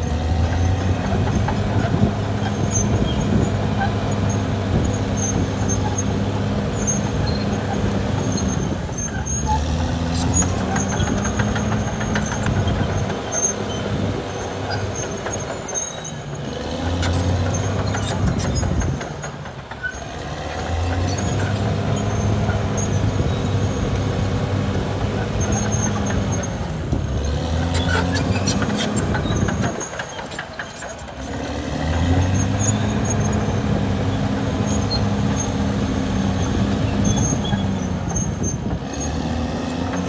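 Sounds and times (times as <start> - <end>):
bulldozer diesel engine running hard: 0.0 - 40.0.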